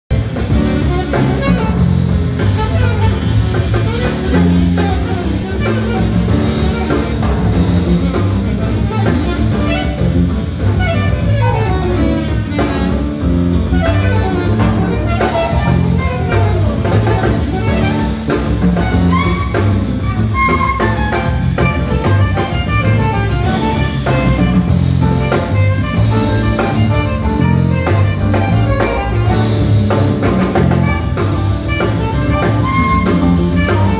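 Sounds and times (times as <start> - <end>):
piano: 0.0 - 33.9
drum kit: 0.1 - 33.9
walking electric bass: 0.1 - 33.9
saxophone melody: 0.2 - 33.9.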